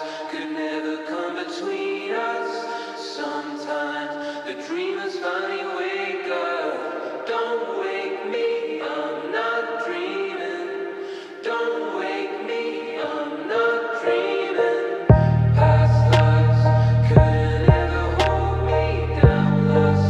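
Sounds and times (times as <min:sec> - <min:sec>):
choir singing slow held notes: 0:00.0 - 0:20.0.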